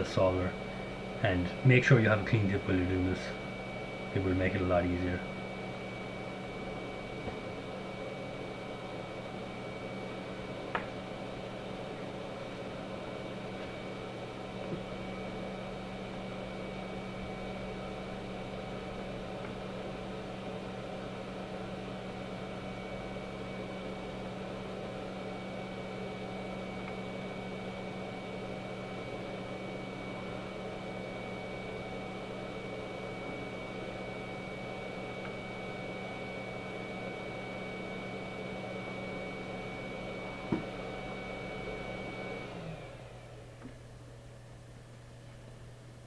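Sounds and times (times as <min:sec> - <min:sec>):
electric blower motor whining: 0:00.0 - 0:44.4
machine hum with hiss: 0:00.0 - 0:46.0.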